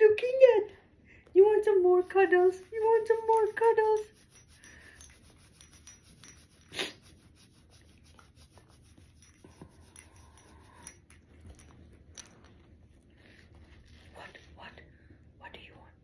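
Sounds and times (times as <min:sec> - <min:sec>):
hand rubbing dog's fur: 0:01.4 - 0:14.6.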